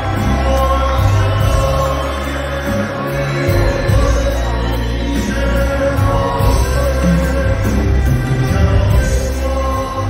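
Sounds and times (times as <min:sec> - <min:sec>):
live band playing: 0:00.0 - 0:10.0
male singer: 0:00.0 - 0:10.0.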